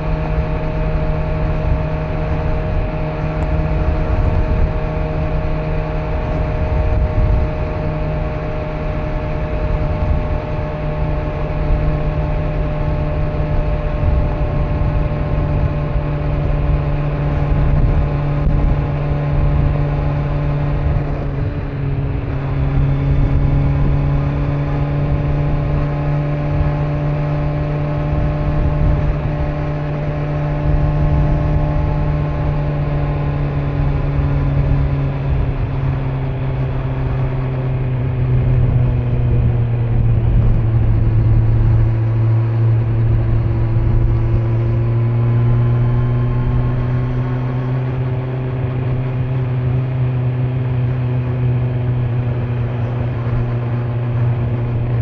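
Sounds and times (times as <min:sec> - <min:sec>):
motorcycle engine cruising: 0:00.0 - 0:55.0
wind and road rumble: 0:00.0 - 0:55.0.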